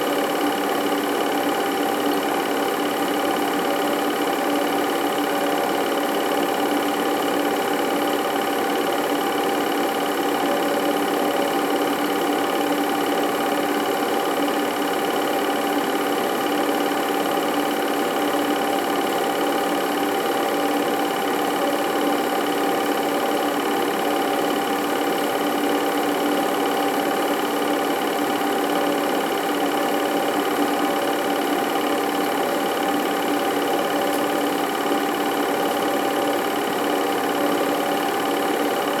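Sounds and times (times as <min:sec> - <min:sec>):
small machine whirring: 0:00.0 - 0:39.0.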